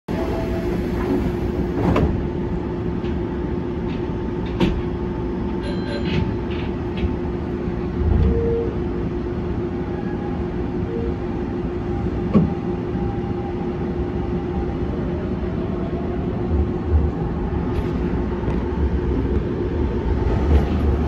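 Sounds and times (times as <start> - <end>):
train equipment humming: 0.1 - 21.0.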